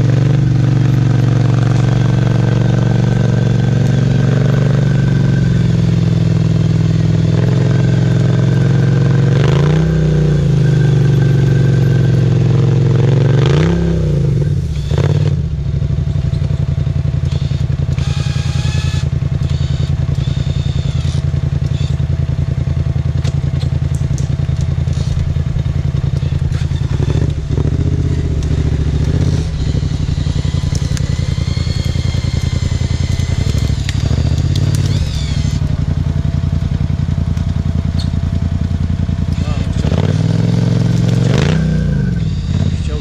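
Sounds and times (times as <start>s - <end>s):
quad engine revving: 0.0s - 43.0s.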